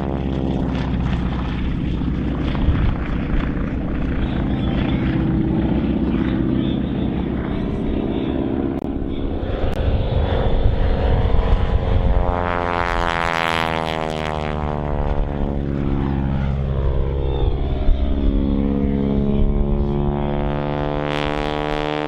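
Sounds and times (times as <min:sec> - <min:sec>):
propeller plane engine passing: 0:00.0 - 0:22.0.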